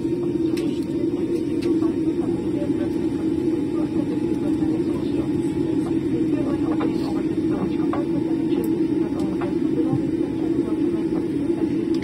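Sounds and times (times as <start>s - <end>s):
aircraft cabin rumble while taxiing: 0.0s - 12.0s.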